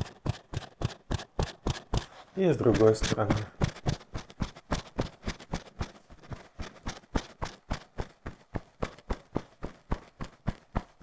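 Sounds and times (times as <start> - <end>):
hands patting chest: 0.0 - 11.0.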